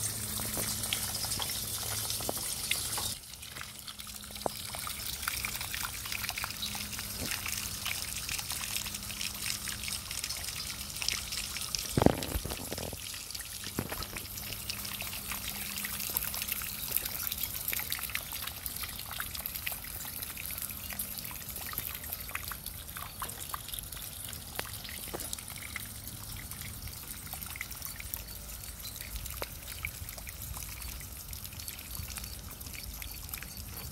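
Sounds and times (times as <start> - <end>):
water trickling down rain chain: 0.0 - 33.9.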